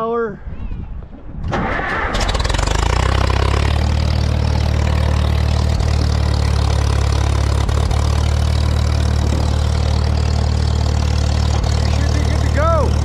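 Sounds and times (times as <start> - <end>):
tractor engine idling: 2.2 - 13.0.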